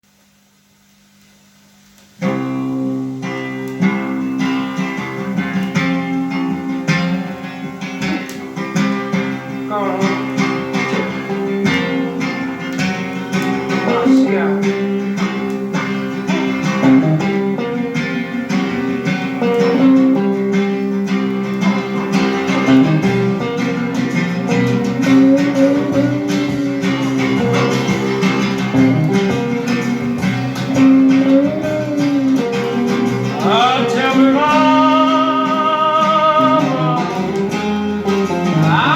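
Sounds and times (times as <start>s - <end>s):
guitar-led music: 1.8s - 38.9s.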